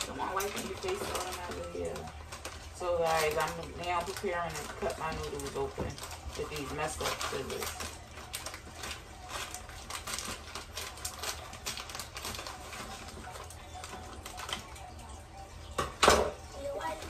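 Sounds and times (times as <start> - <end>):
scissors cutting plastic packet: 0.0 - 15.2
wrapper crinkling: 0.0 - 15.8.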